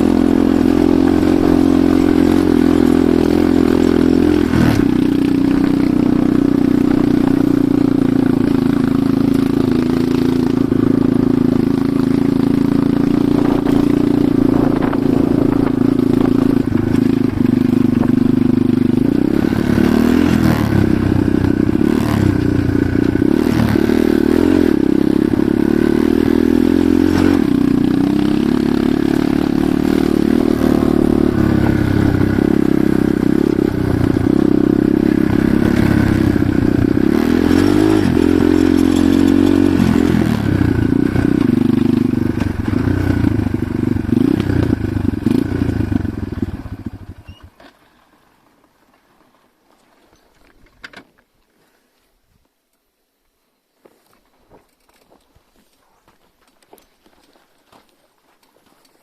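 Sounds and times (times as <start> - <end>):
motorcycle engine running: 0.0 - 47.6.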